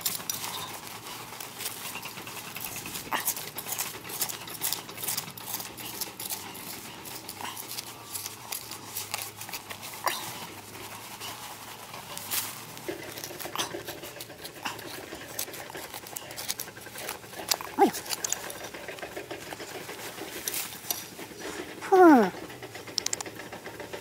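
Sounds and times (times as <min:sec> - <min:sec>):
trowel scraping soil: 0:00.0 - 0:22.3.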